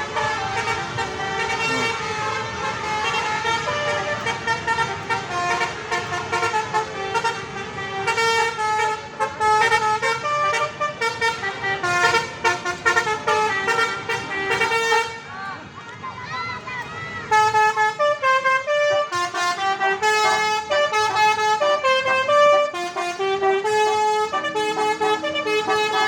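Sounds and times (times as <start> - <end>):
multi-tone bus horn tune: 0.0 - 15.3, 17.3 - 26.0.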